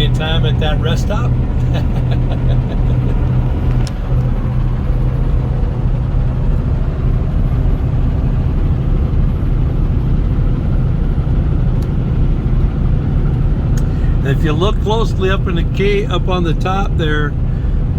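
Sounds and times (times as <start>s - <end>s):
vehicle engine and road noise: 0.0s - 17.9s.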